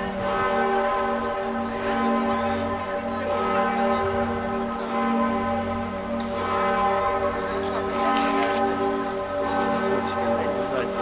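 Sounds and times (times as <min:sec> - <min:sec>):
large bronze bell ringing: 0:00.0 - 0:11.0.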